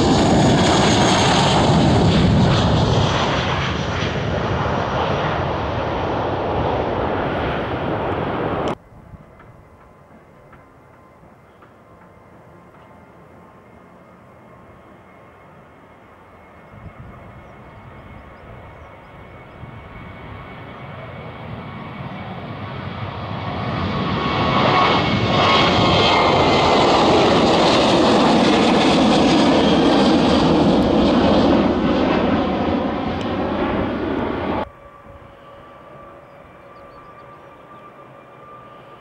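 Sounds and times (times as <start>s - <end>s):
jet engine whine: 0.0s - 39.0s
jet engines roaring at takeoff: 0.0s - 39.0s.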